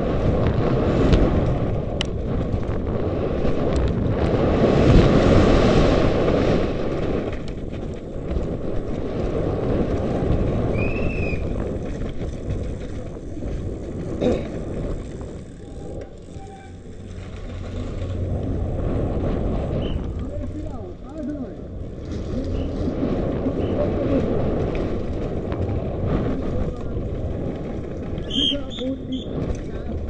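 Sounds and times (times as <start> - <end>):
bike rattling: 0.0 - 30.0
tyres on loose dirt: 0.0 - 30.0
wind noise: 0.0 - 30.0.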